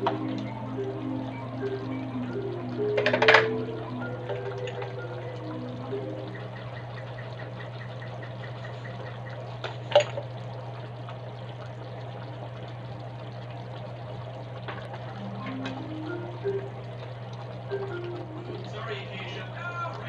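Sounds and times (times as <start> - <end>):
low steady hum: 0.0 - 20.0
sauce bubbling in a frying pan: 0.0 - 20.0.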